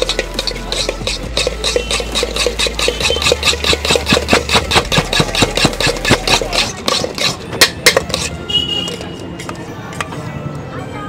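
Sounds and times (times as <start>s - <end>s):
spoon mixing in metal bowl: 0.0s - 10.1s.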